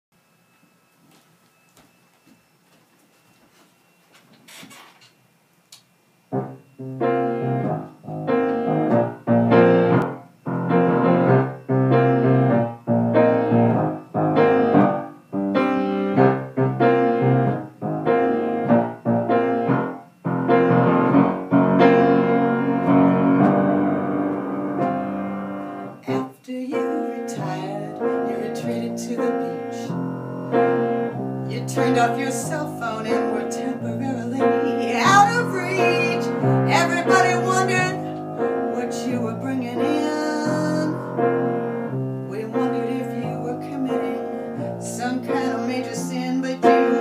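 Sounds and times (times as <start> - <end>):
piano chords: 6.3 - 47.0.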